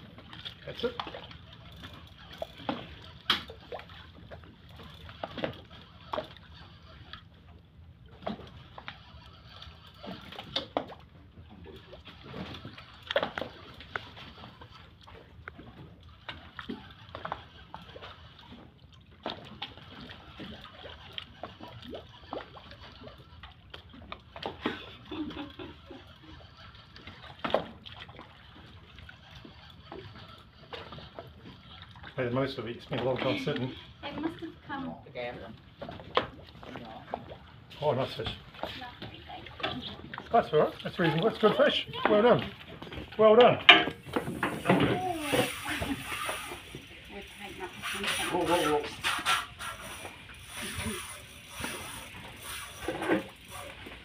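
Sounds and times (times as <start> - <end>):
water sloshing against boat: 0.0 - 54.0.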